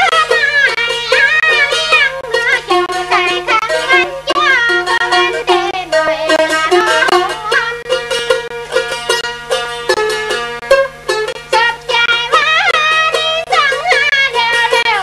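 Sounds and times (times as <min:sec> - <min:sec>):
plucked lute bright notes: 0:00.0 - 0:15.0.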